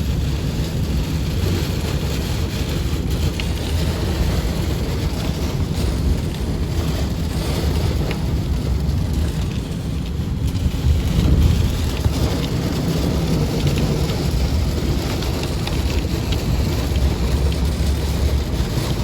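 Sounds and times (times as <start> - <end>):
heavy rain on a car: 0.0 - 19.0
raindrops ticking on glass: 0.0 - 19.0
road and wind noise: 0.0 - 19.0.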